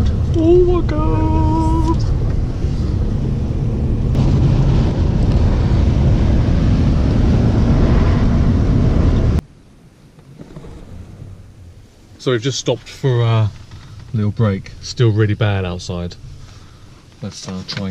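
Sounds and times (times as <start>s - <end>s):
road and wind rumble: 0.0s - 17.9s.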